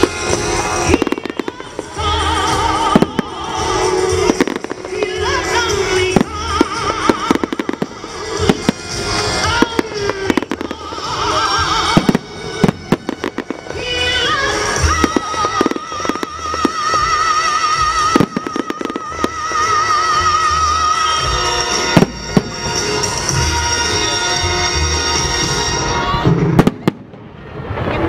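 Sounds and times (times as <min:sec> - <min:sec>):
music: 0:00.0 - 0:27.6
fireworks bursting and crackling: 0:00.0 - 0:28.0.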